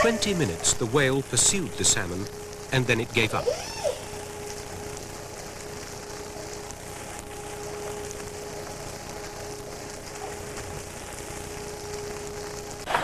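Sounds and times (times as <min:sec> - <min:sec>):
constant hum: 0:00.0 - 0:13.0
steady hiss: 0:00.0 - 0:13.0.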